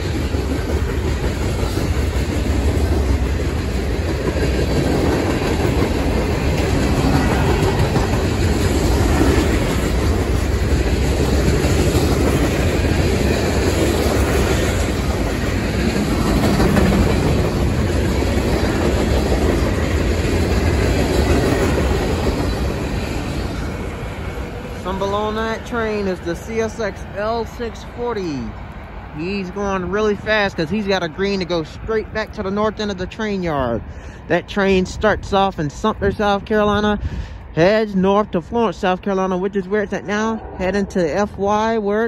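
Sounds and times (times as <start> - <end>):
freight train wheels rumbling on rails: 0.0 - 42.0.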